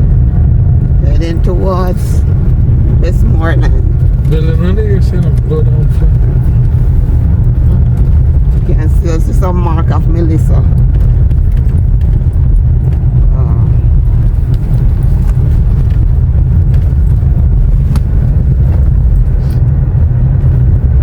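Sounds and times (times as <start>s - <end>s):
car interior driving rumble: 0.0s - 21.0s.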